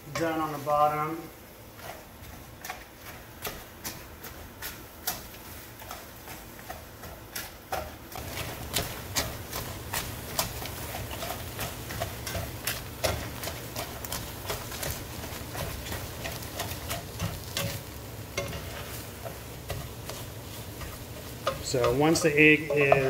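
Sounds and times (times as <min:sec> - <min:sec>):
egg sizzling: 0:00.0 - 0:23.0
spatula scraping frying pan: 0:00.0 - 0:23.0.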